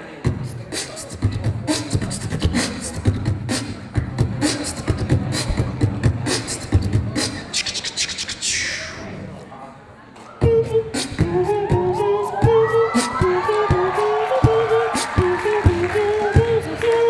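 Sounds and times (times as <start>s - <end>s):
beatboxing into a microphone: 0.2s - 9.2s, 10.3s - 17.0s.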